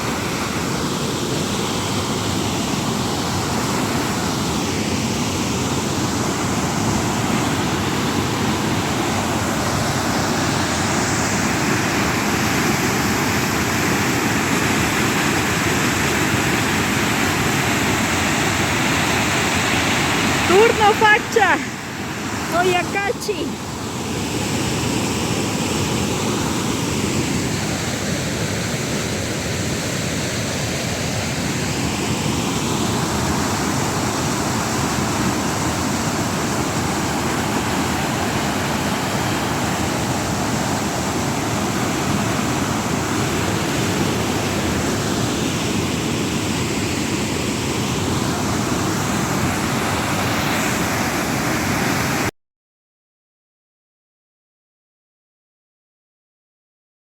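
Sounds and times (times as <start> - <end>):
waterfall roaring: 0.0 - 52.3.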